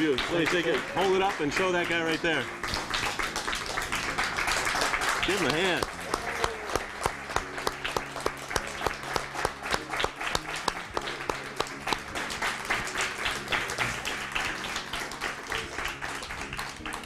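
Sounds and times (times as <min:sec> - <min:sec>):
small group applauding: 0:00.0 - 0:17.0.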